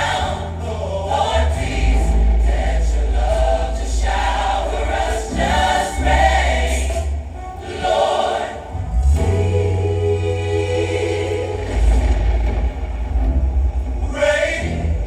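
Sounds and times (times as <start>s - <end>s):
steady low bass: 0.0s - 7.5s, 8.6s - 15.0s
gospel choir singing: 0.0s - 15.0s
musical accompaniment: 0.0s - 15.0s.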